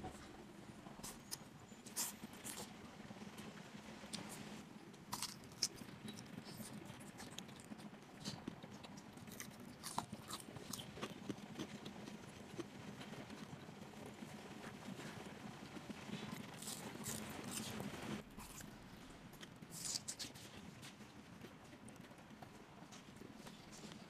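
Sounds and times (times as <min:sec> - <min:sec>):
chewing fried food: 0:01.0 - 0:02.8, 0:04.1 - 0:24.0.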